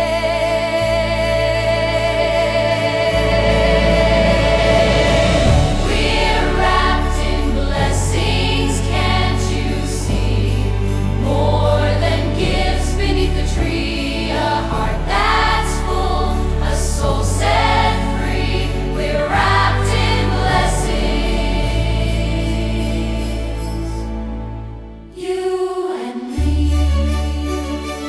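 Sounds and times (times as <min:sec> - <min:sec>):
bass notes: 0:00.0 - 0:25.1
christmas song with choir vocals: 0:00.0 - 0:28.0.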